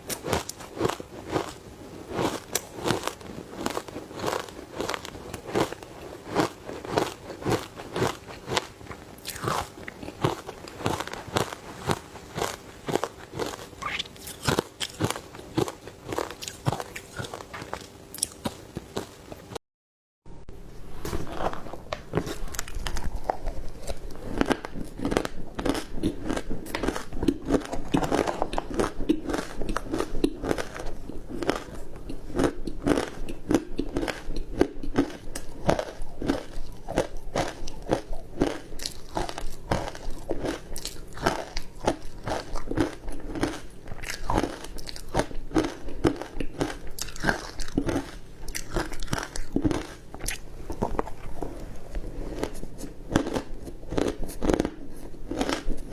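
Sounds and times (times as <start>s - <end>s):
person chewing ice: 0.0s - 19.5s, 21.1s - 55.9s.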